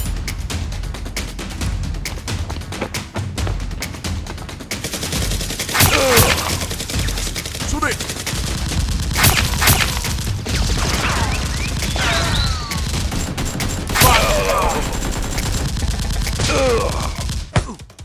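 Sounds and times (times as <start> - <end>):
rapid gunfire: 0.0 - 18.0.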